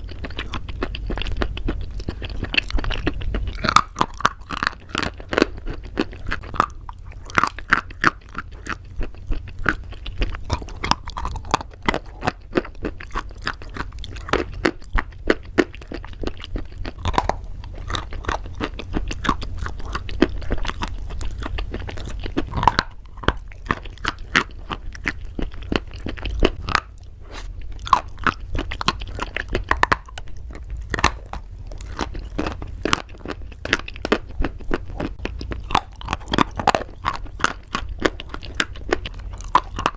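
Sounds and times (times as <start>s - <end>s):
chewing crunchy pasta: 0.0s - 39.9s.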